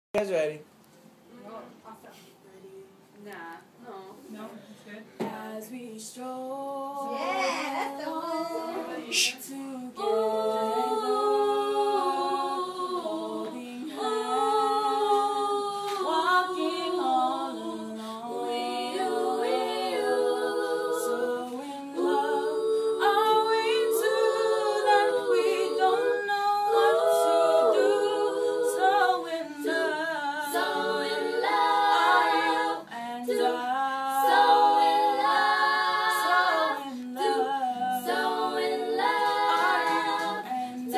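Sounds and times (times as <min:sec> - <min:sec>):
girls singing a cappella: 0:05.1 - 0:40.9.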